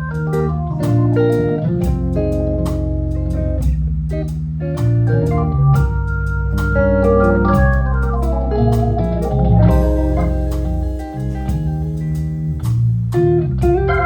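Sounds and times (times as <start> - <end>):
organ playing chords: 0.0 - 14.0
drum and cymbal hits: 0.1 - 14.0.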